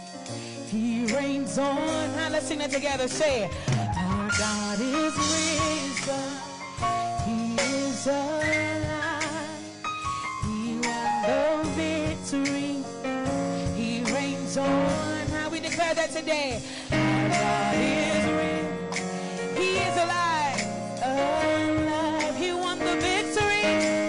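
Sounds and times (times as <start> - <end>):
instrumental backing: 0.0 - 24.0
woman singing gospel song: 0.7 - 9.8, 10.4 - 24.0.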